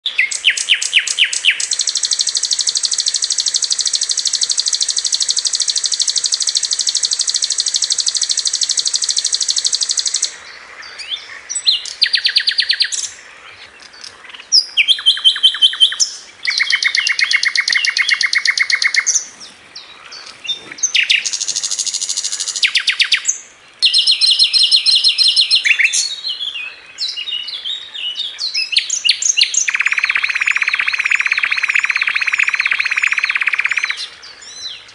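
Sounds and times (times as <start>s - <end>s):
flycatcher singing rapid trills: 0.1s - 13.2s, 14.0s - 19.3s, 20.2s - 26.4s, 28.5s - 34.6s.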